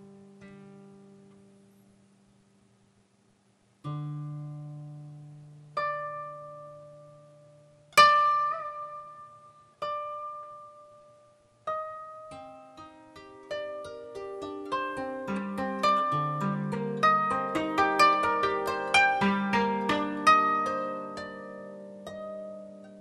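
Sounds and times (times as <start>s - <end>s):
koto plucked notes: 3.8s - 23.0s.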